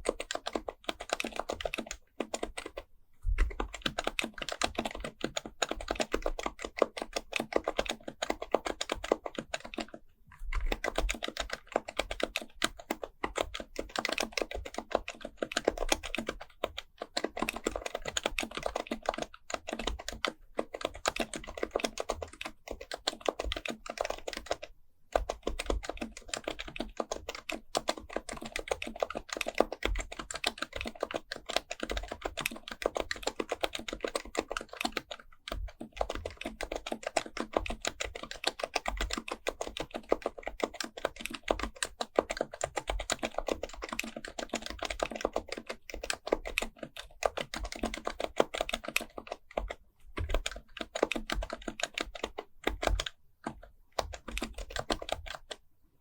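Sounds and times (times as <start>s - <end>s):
keyboard typing: 0.0s - 55.6s.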